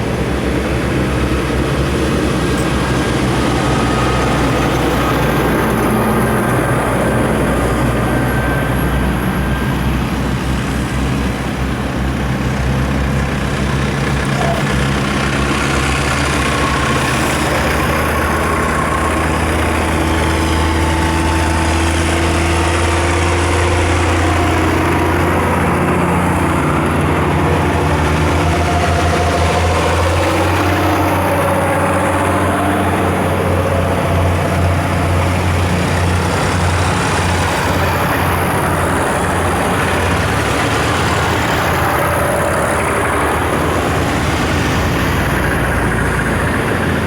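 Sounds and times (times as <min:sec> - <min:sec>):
diesel tractor engines driving past: 0:00.0 - 0:47.0.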